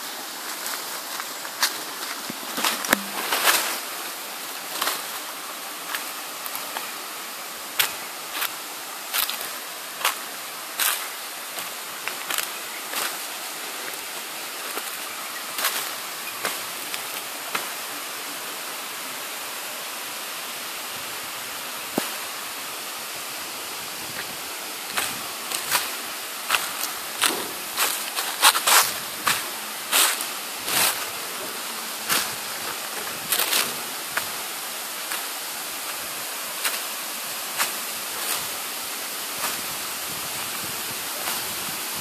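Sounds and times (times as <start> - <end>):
footsteps on dry leaves and rock: 0.0 - 7.0, 7.8 - 17.8, 23.4 - 41.8
waterfall rushing: 0.0 - 42.0.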